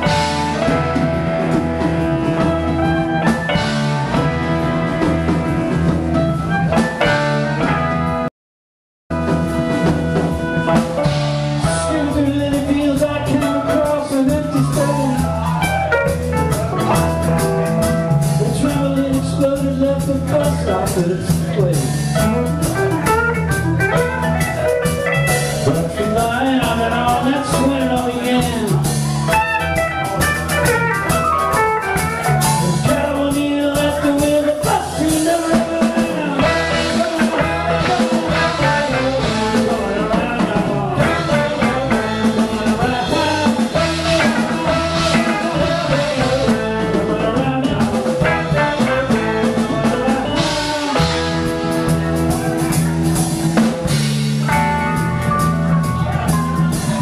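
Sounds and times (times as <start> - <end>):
bass: 0.0 - 8.3, 9.1 - 57.0
drum kit: 0.0 - 8.3, 9.1 - 57.0
electric guitar: 0.0 - 8.3, 9.2 - 57.0
keyboard: 0.0 - 8.3, 9.1 - 57.0.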